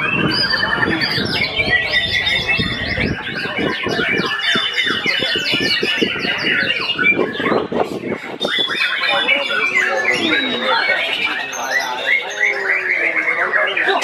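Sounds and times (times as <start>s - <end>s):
bird singing whistled song: 0.0s - 14.0s.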